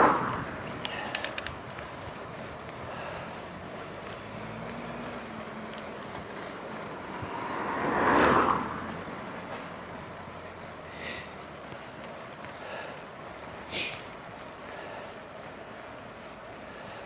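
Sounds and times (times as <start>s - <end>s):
car passing: 0.0s - 17.0s
wind and riding noise: 0.0s - 17.0s.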